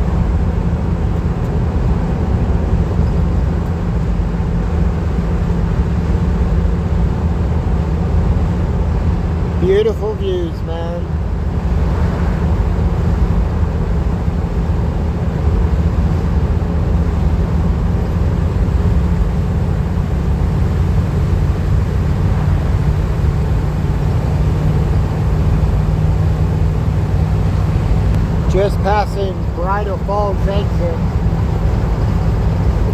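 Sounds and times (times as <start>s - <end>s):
van engine and road noise: 0.0s - 32.9s.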